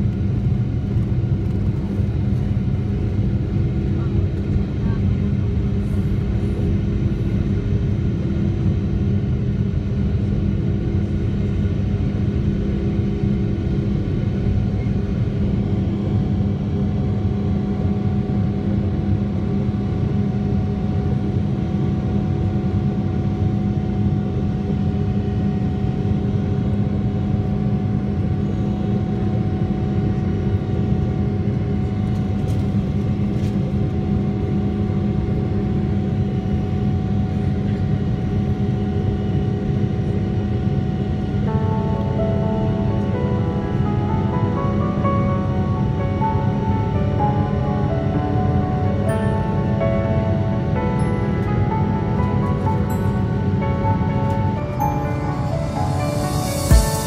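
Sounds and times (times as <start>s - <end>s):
airplane cabin engine drone: 0.0s - 57.0s.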